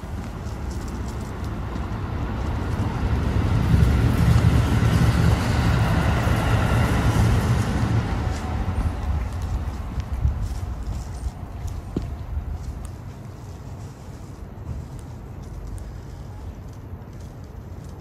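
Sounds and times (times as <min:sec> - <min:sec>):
vehicle passing rumble: 0:00.0 - 0:18.0.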